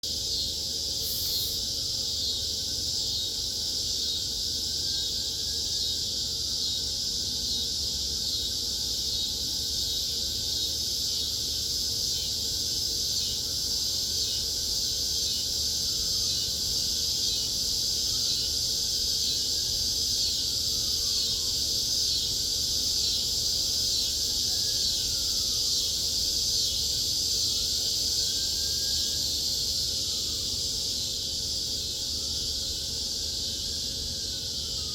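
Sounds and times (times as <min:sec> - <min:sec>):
cicada chorus drone: 0:00.0 - 0:34.9.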